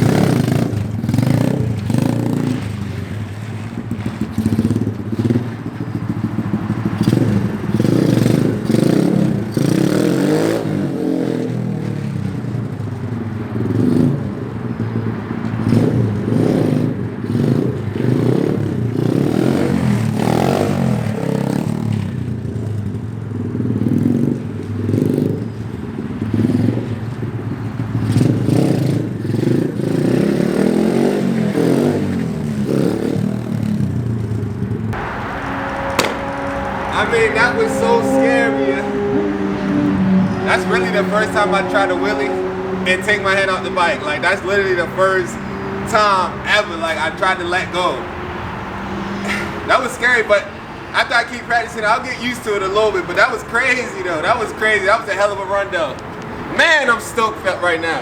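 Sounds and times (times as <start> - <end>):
small motorbike engine revving: 0.0 - 50.2.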